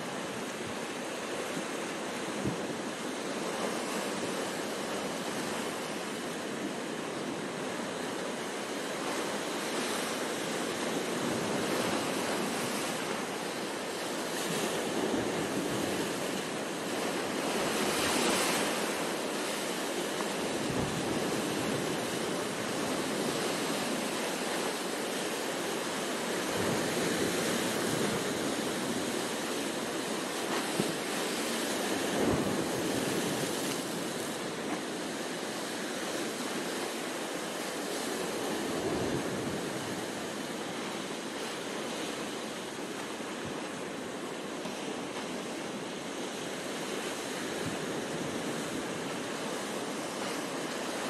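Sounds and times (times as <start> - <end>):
waves breaking on rocks: 0.0 - 51.0.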